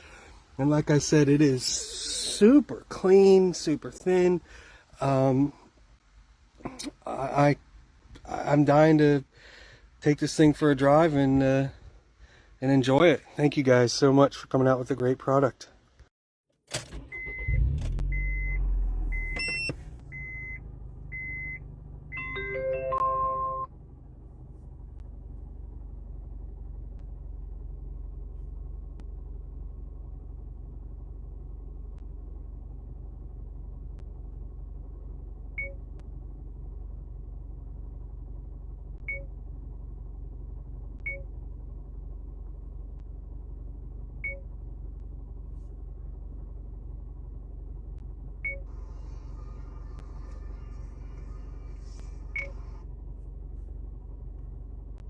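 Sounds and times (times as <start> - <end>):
car engine starting and idling: 0.0 - 55.0.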